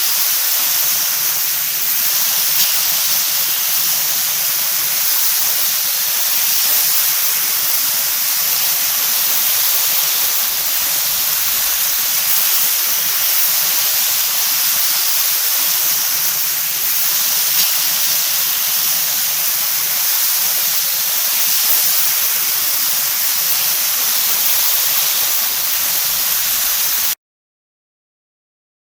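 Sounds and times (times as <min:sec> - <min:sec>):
meat frying sizzle: 0:00.0 - 0:27.2.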